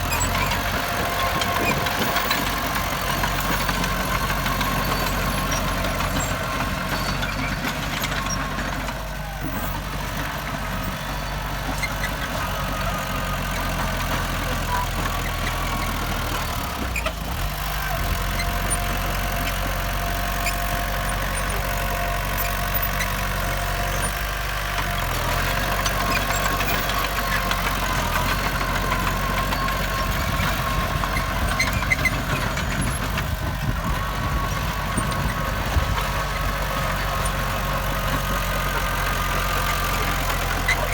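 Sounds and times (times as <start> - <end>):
heavy diesel machinery running: 0.0 - 40.9.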